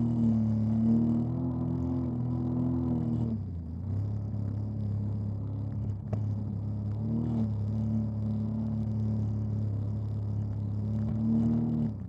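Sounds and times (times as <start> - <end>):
jet ski engine: 0.0 - 12.0.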